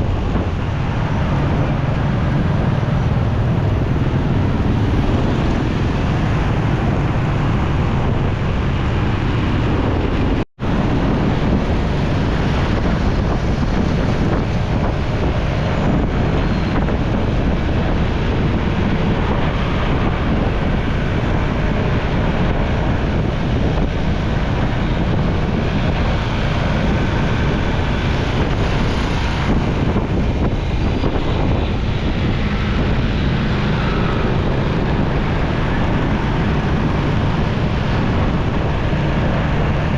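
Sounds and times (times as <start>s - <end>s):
motorcycle road noise: 0.0s - 39.9s
wind rushing on microphone: 0.0s - 39.9s.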